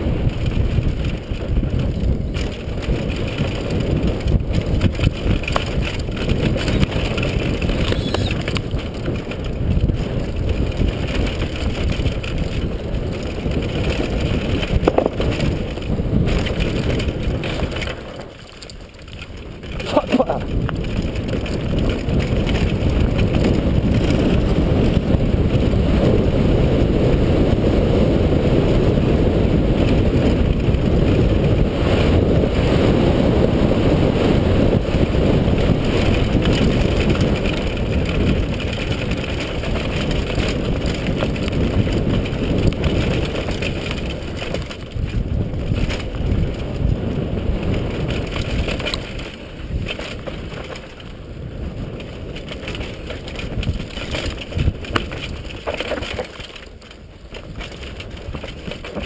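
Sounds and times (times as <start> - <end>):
bike rattling: 0.0 - 59.0
tyres rumbling over dirt: 0.0 - 59.0
wind buffeting microphone: 0.0 - 59.0.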